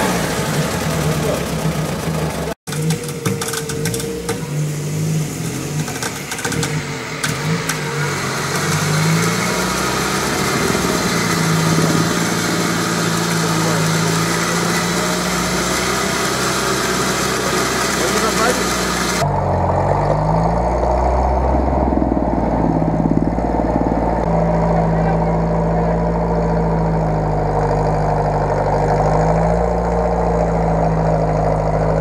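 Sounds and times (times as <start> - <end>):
jeep engine running under load: 0.0 - 32.0.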